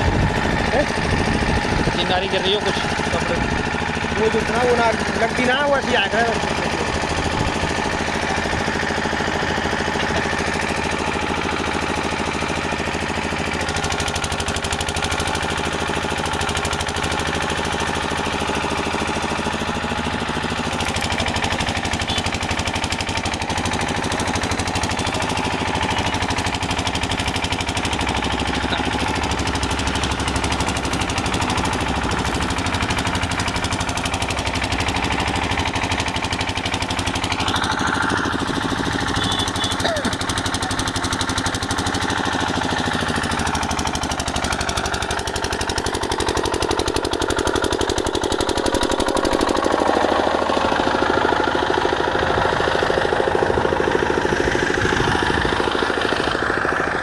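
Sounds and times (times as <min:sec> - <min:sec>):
engine running with rough pulsing: 0:00.0 - 0:57.0.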